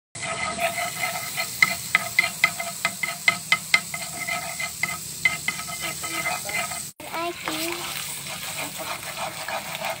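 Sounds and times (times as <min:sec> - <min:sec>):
fat sizzling in a frying pan: 0:00.2 - 0:10.0
spatula stirring: 0:00.2 - 0:10.0.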